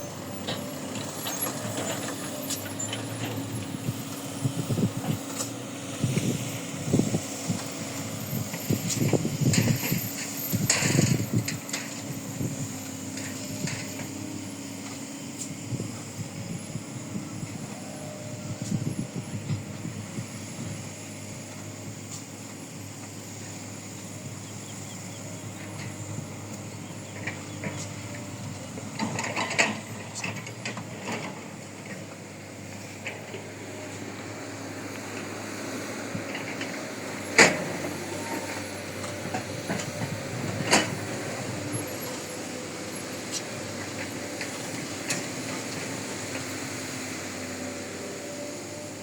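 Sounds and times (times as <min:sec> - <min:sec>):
heavy machinery engine running: 0:00.0 - 0:49.0.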